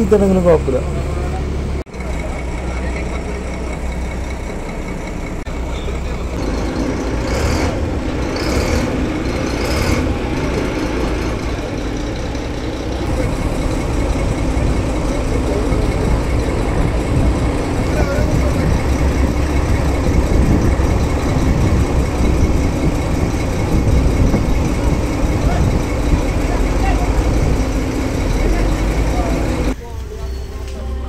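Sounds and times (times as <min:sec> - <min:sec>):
boat engine rumbling: 0:00.0 - 0:31.0
crowd voices: 0:00.0 - 0:31.0.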